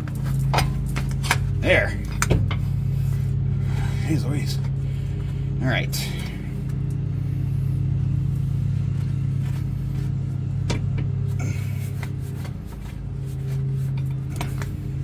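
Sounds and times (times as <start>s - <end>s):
lawnmower engines droning: 0.0s - 15.0s.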